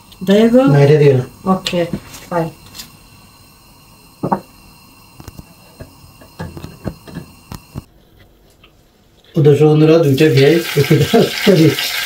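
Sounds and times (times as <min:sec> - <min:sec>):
faint electrical whine and hum: 0:00.0 - 0:12.0.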